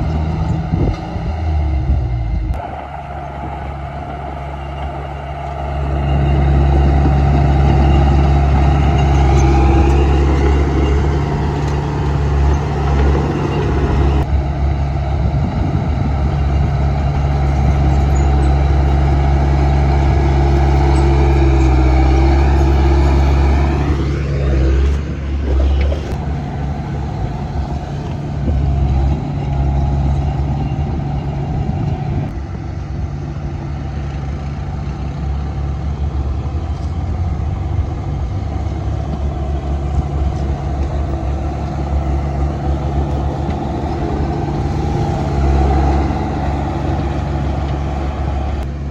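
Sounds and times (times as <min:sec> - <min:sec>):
bulldozer diesel engine revving: 0:00.0 - 0:48.9.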